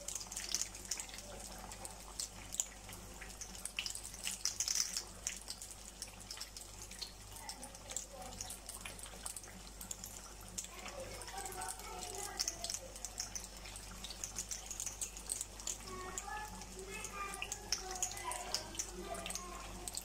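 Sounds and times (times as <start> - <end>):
deep-frying sizzle with crackles: 0.0 - 20.0.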